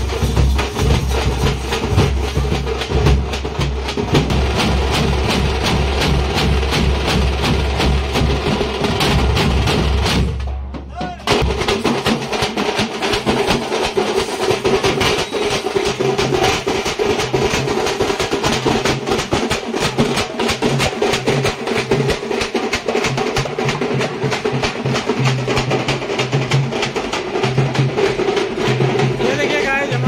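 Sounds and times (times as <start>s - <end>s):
street drum band playing: 0.0s - 30.0s.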